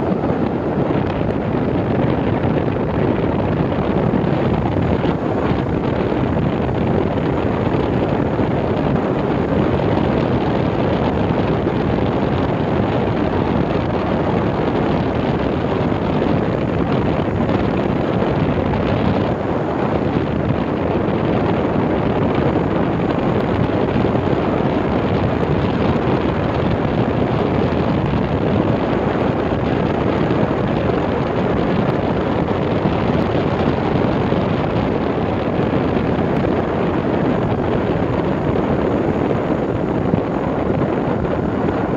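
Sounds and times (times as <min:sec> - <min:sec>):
wind rushing over microphone: 0:00.0 - 0:41.9.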